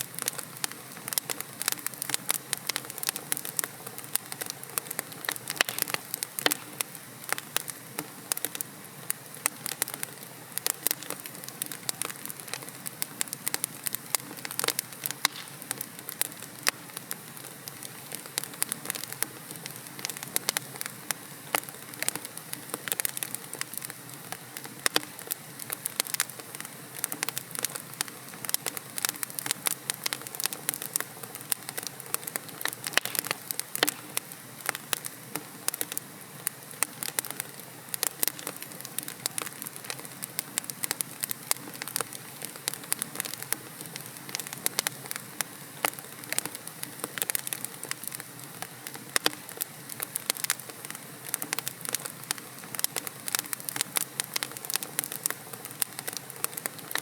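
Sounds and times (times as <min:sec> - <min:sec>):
fire hissing: 0:00.0 - 0:57.0
logs crackling and popping: 0:00.0 - 0:57.0.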